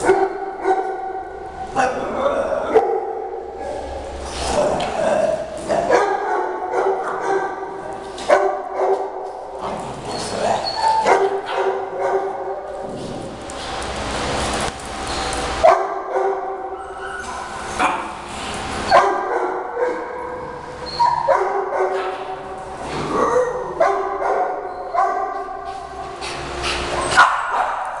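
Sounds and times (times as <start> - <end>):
dogs barking and yipping: 0.0 - 1.6, 2.7 - 4.3, 5.6 - 12.8, 13.7 - 28.0.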